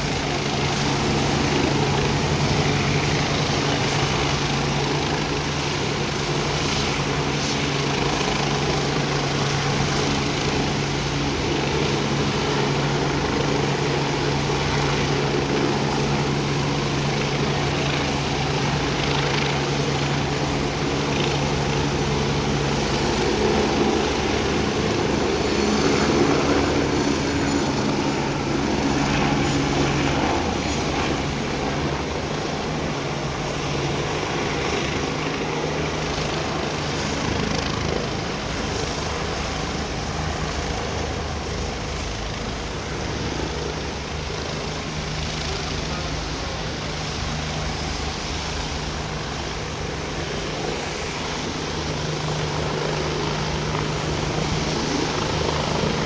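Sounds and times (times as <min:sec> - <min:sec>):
helicopter turbine and rotor hum: 0:00.0 - 0:56.0.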